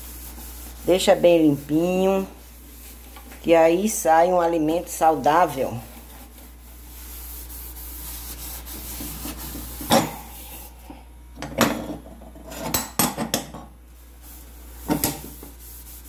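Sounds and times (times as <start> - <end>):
sponge scrubbing metal stovetop: 0.0 - 11.1, 13.9 - 16.0.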